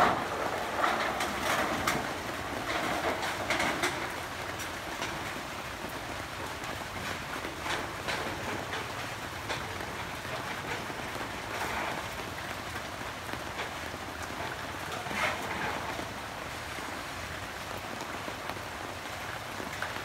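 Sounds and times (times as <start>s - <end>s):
raindrops ticking: 0.0s - 20.0s
steady rain falling: 0.0s - 20.0s.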